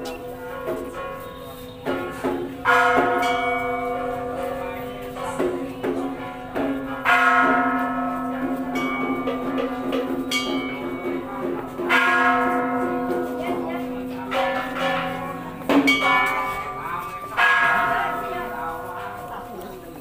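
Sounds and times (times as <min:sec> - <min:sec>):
light bell strikes: 0:00.0 - 0:20.0
temple bell ringing: 0:00.0 - 0:20.0.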